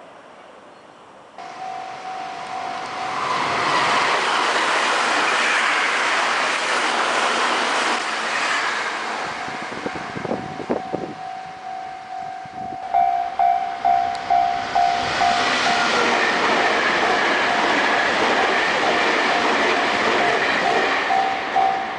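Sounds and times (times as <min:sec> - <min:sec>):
electric train passing at speed: 0:01.0 - 0:21.9.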